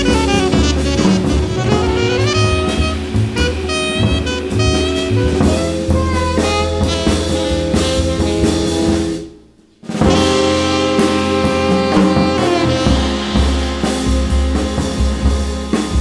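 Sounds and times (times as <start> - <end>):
alto saxophone: 0.0 - 9.4, 10.0 - 16.0
jazz band playing: 0.0 - 16.0.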